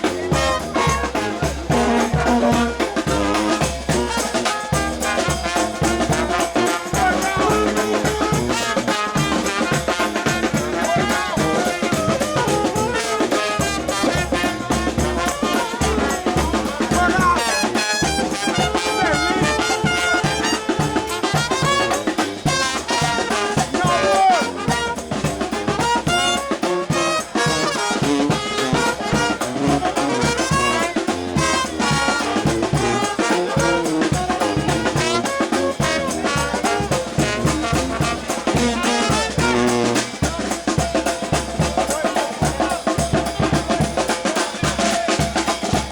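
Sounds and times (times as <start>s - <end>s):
brass horns: 0.0s - 45.9s
steady drum beat: 0.0s - 45.9s.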